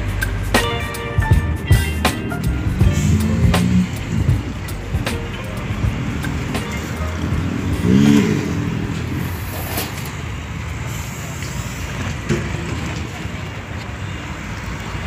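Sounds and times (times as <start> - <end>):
trucks and cars passing: 0.0 - 15.0.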